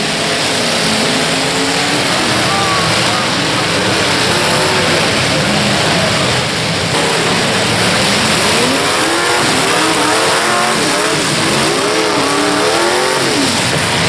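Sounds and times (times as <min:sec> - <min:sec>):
car engines revving hard: 0:00.0 - 0:14.0
loud dense background noise: 0:00.0 - 0:14.0.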